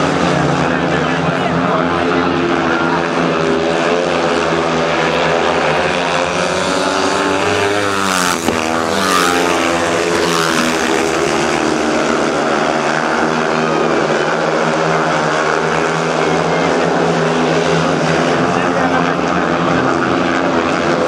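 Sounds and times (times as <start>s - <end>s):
motorcycles racing at high revs: 0.0s - 21.0s.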